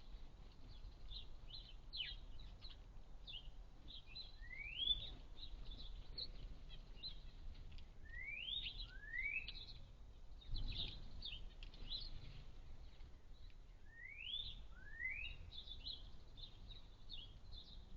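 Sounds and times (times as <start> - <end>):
sparrows chirping: 0.0 - 17.9.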